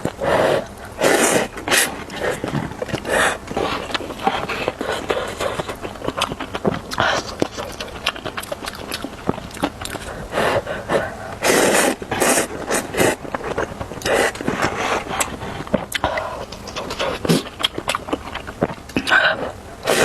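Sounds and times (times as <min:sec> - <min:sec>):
noodle slurps: 0:00.0 - 0:08.0, 0:09.6 - 0:20.0
wet chewing and mouth clicks: 0:00.0 - 0:20.0.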